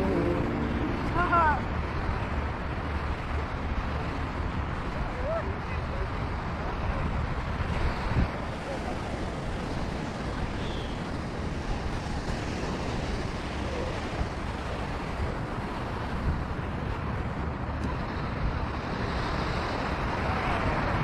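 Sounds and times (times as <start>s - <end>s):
small waves breaking on beach: 0.0s - 21.0s
wind buffeting microphone: 0.0s - 21.0s.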